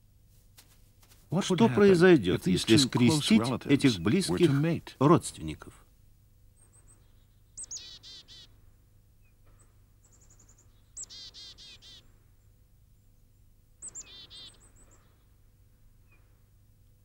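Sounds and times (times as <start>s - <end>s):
songbird singing: 1.3s - 5.8s, 6.5s - 8.6s, 9.2s - 16.4s.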